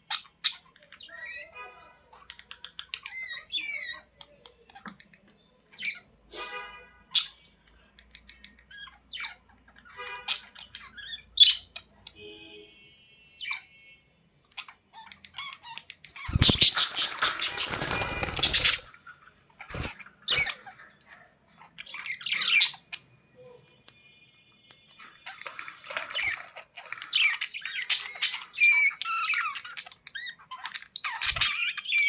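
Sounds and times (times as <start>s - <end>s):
budgerigars chirping and squawking: 0.0s - 6.1s, 7.1s - 12.1s, 13.4s - 13.7s, 14.5s - 23.7s, 25.0s - 32.0s.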